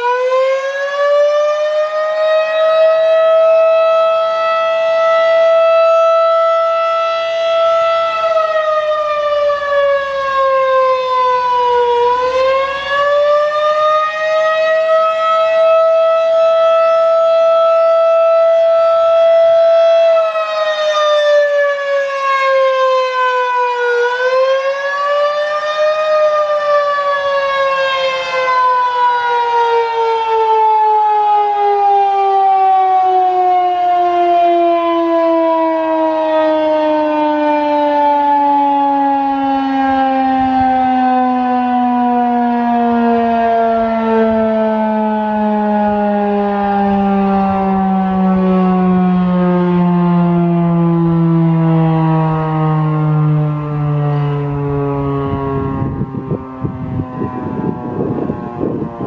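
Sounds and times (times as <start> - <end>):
warning siren: 0.0 - 59.0.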